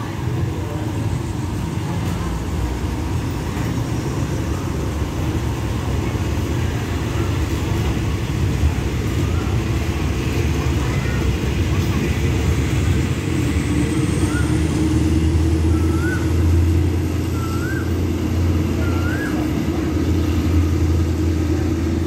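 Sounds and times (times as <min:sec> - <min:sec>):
train coaches rumbling: 0:00.0 - 0:22.0.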